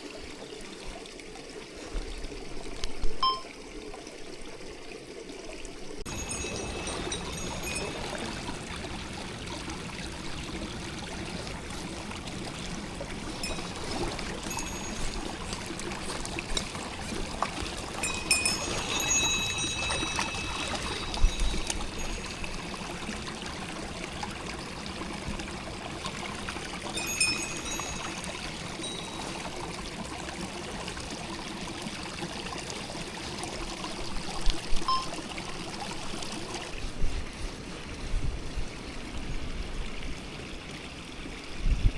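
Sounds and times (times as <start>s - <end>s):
stream flowing over rocks: 0.0s - 41.6s.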